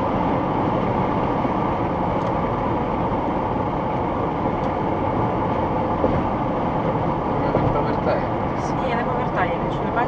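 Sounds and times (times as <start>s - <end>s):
car interior road noise: 0.0s - 10.0s.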